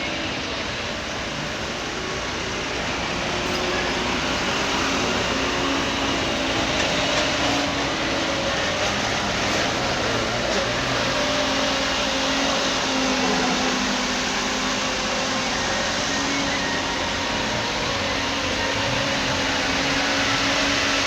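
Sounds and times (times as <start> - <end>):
dense rushing noise: 0.0 - 21.0
diesel engine running: 0.0 - 21.0.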